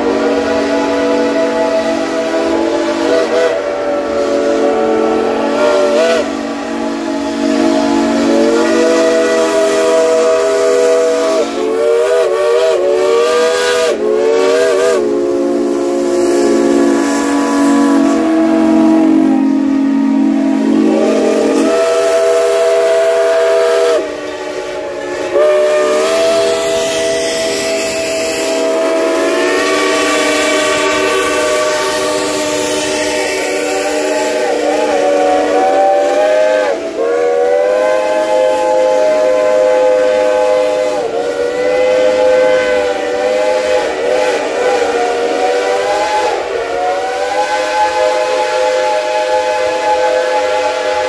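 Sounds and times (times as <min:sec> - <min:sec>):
low steam whistle note: 0:00.0 - 0:51.0
steam whistles blasting: 0:00.0 - 0:51.0.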